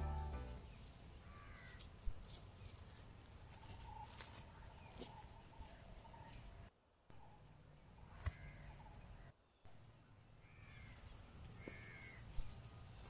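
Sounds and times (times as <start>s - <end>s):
birds calling: 0.6s - 9.3s, 10.4s - 13.0s.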